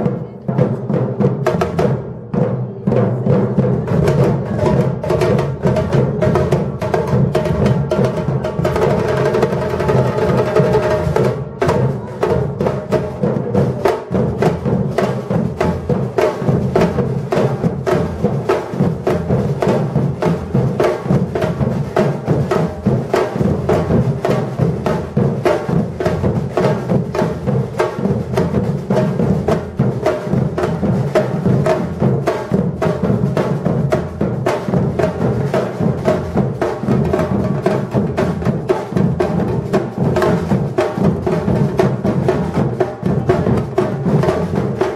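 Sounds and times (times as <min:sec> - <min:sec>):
drum ensemble playing: 0:00.0 - 0:44.9.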